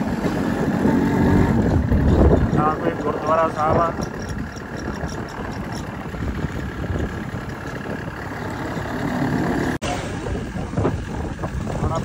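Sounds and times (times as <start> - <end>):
motorcycle engine running: 0.0 - 12.0
tyre rumble on rough road: 0.0 - 12.0.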